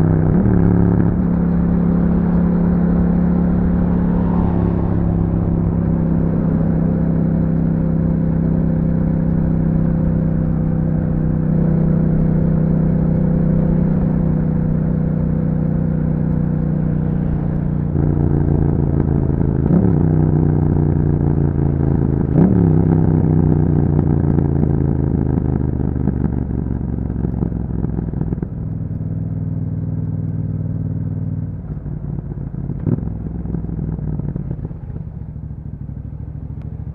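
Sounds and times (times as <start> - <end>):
motorcycle engine while riding: 0.0 - 36.9.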